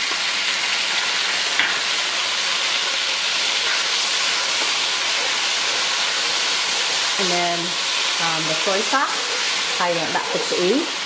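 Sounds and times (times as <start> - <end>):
sauce sizzling in hot oil: 0.0 - 11.0.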